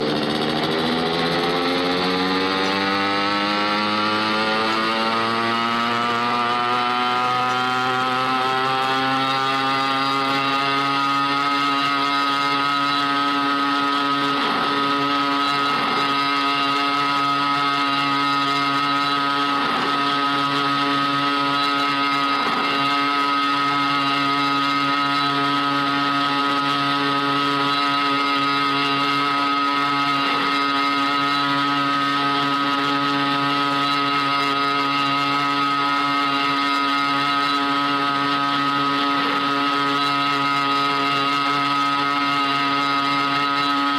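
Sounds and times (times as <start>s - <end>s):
scooter engine accelerating: 0.0s - 43.9s.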